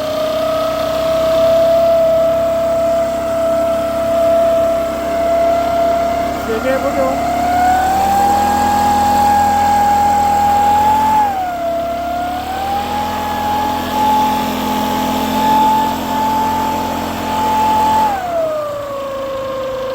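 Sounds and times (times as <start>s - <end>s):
leaf blower engine running: 0.0s - 19.9s.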